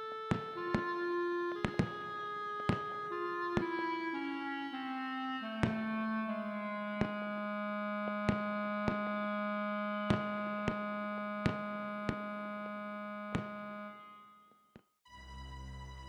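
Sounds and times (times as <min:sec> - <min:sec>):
long held clarinet note: 0:00.0 - 0:14.2.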